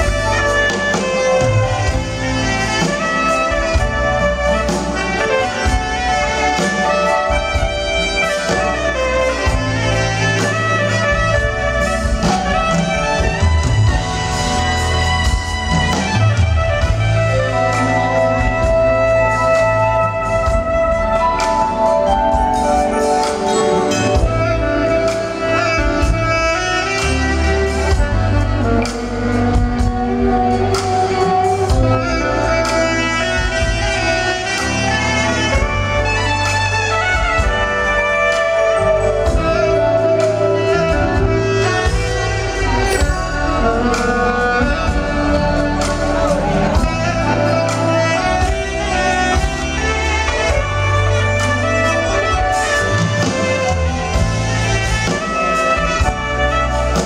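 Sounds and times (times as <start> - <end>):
congas: 0.0 - 57.0
drum kit: 0.0 - 57.0
electric bass: 0.0 - 57.0
soprano saxophone melody: 0.0 - 57.0.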